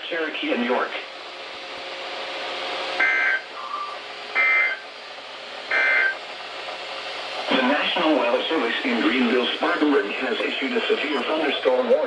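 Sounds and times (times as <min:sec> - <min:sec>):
radio hiss: 0:02.0 - 0:12.0.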